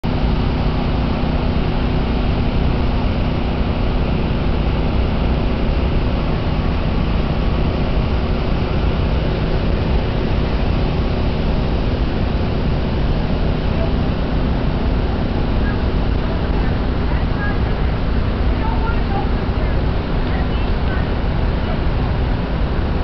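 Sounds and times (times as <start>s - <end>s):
river floodwater rushing: 0.1s - 23.0s.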